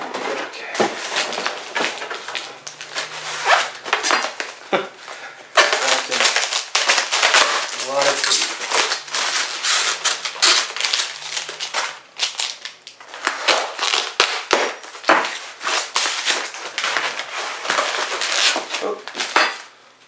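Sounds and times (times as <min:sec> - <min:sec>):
foam and plastic scraping and crinkling: 0:00.0 - 0:19.6.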